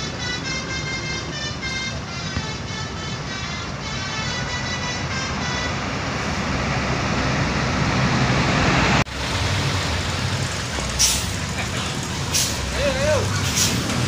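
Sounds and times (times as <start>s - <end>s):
buses passing: 0.0s - 14.0s
engine running: 0.0s - 14.0s.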